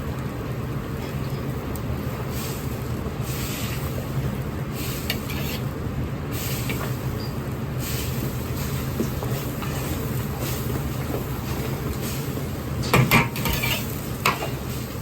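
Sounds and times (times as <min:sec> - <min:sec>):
hissing of wok cooking: 0:00.0 - 0:15.0
kitchen exhaust humming: 0:00.0 - 0:15.0.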